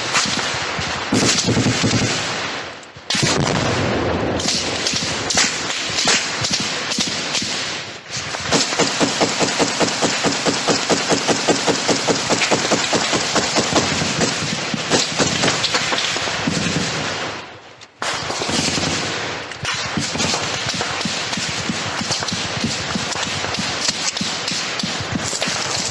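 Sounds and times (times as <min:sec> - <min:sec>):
automatic gunfire: 0:00.0 - 0:02.4, 0:03.1 - 0:17.3, 0:18.0 - 0:25.9.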